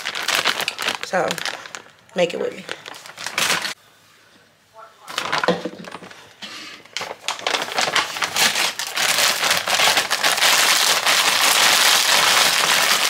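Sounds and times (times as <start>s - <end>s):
plastic packaging crinkling: 0.0s - 3.8s, 5.0s - 6.2s, 6.9s - 13.0s.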